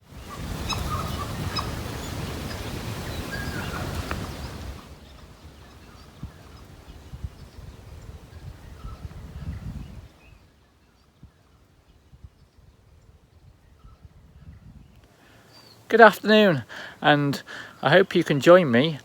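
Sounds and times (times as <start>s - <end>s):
forest birds chirping: 0.0s - 19.0s.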